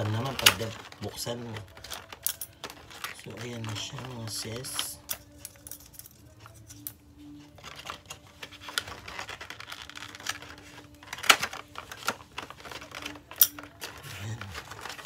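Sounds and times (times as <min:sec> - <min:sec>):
paperboard crackling: 0:00.0 - 0:05.0, 0:07.6 - 0:15.0.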